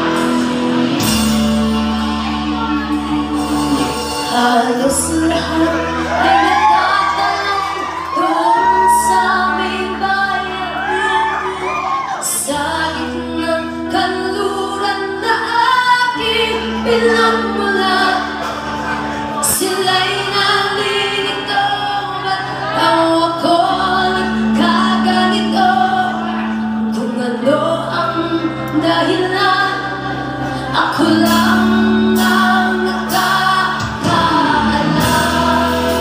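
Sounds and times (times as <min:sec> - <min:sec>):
live pop rock band: 0:00.0 - 0:36.0
woman singing lead vocals: 0:00.0 - 0:36.0.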